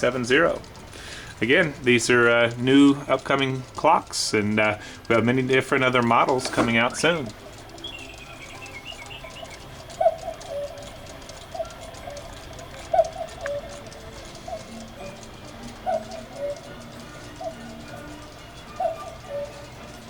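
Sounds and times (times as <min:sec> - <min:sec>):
cuckoo clock calling: 0:00.0 - 0:20.0.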